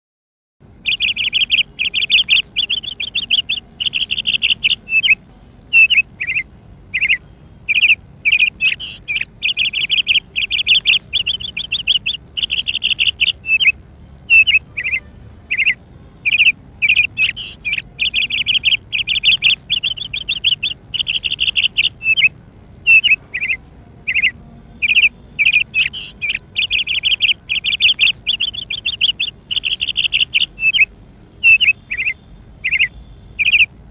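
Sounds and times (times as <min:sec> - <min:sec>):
bird trilling chirps: 0:00.8 - 0:33.9.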